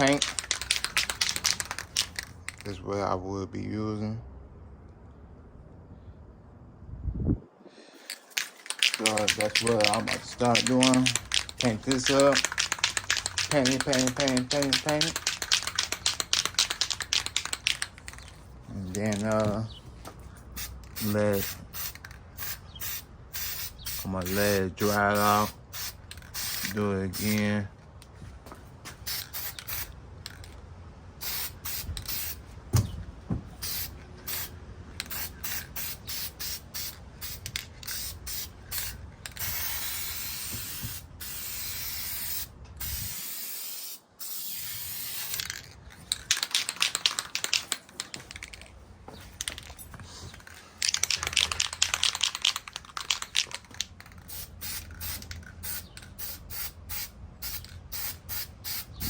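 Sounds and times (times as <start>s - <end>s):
spray paint can hissing: 0.0s - 2.6s, 8.0s - 19.4s, 20.6s - 27.5s, 28.9s - 30.6s, 31.2s - 32.4s, 33.6s - 48.6s, 50.4s - 59.0s.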